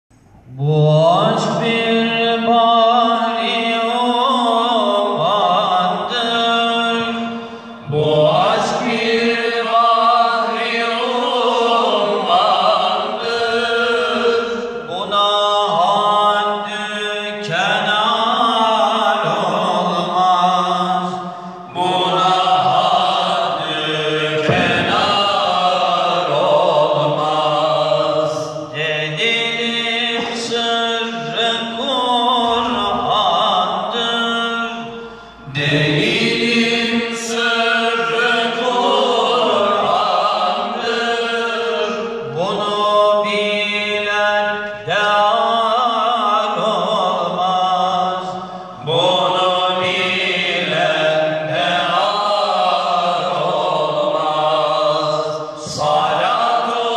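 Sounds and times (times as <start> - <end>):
steady held vocal note: 0.1 - 56.9
men singing a hymn unaccompanied: 0.5 - 56.9.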